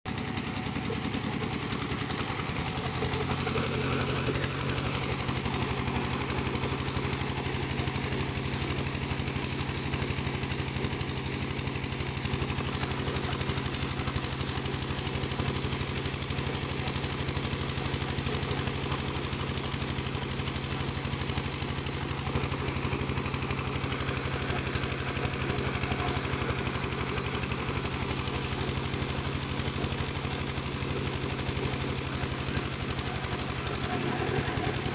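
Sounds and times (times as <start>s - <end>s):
piling machine engine chugging: 0.1s - 34.9s.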